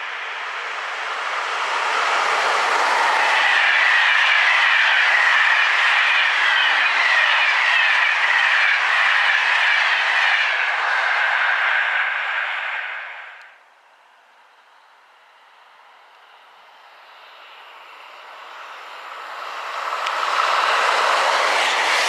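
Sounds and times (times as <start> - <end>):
train wheels rolling on rails: 0.0 - 13.6, 16.2 - 22.0.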